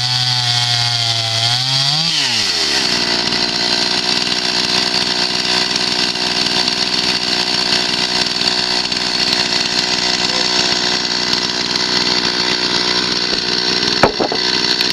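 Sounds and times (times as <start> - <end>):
band sawmill cutting log: 0.0 - 14.9.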